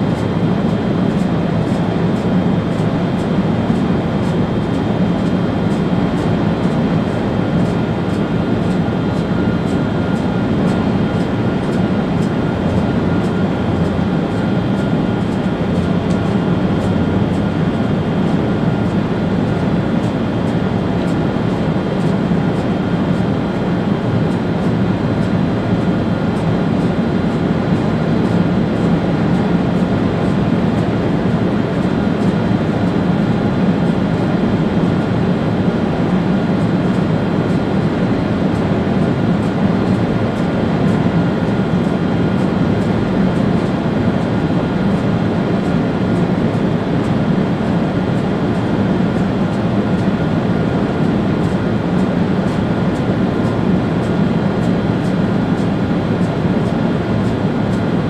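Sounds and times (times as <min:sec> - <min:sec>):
thin steady whine: 0:00.0 - 0:58.0.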